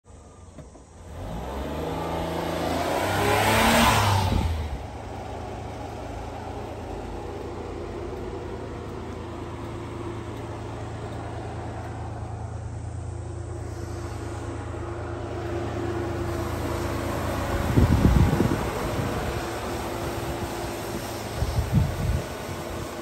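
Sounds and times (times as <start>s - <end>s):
small truck engine idling: 0.1s - 1.2s, 4.3s - 23.0s.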